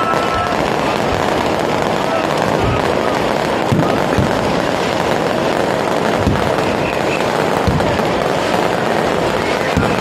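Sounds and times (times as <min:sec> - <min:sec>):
fireworks booming: 0:00.0 - 0:10.0.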